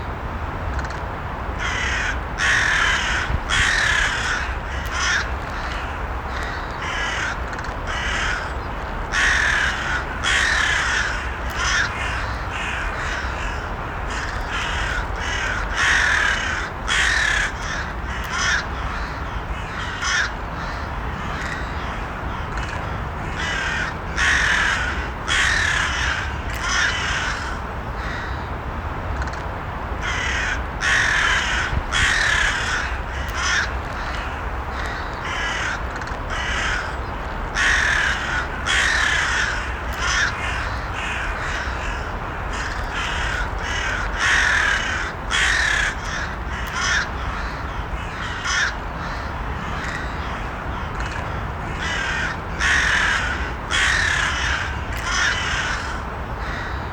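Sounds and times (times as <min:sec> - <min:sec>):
crows cawing: 0:01.6 - 0:28.5, 0:30.0 - 0:56.9.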